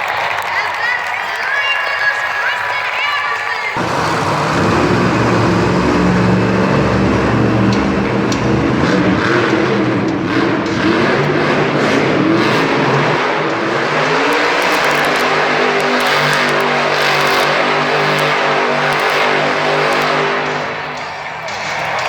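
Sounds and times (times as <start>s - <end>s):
monster truck engine revving: 3.8s - 22.0s.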